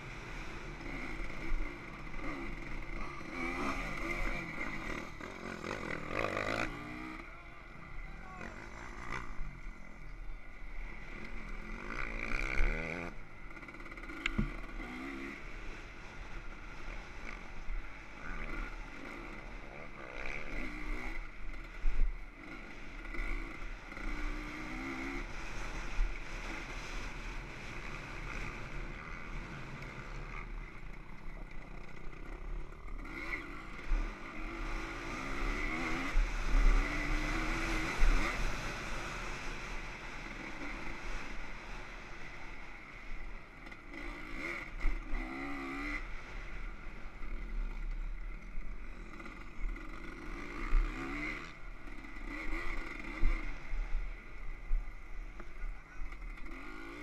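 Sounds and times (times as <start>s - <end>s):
dirt bike engine revving: 0.0s - 9.9s, 10.5s - 57.0s.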